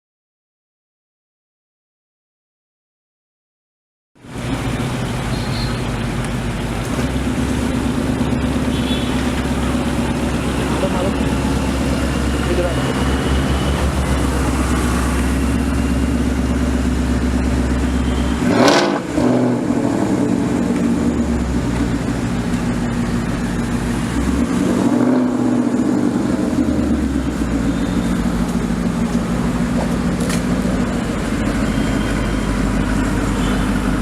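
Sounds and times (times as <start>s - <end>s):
car engine droning: 4.2s - 34.0s
engine revving: 4.3s - 34.0s.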